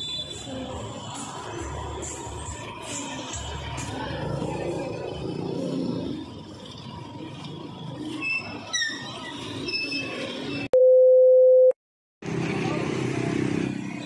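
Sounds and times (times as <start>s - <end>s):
street traffic hum: 0.0s - 10.8s, 12.2s - 14.0s.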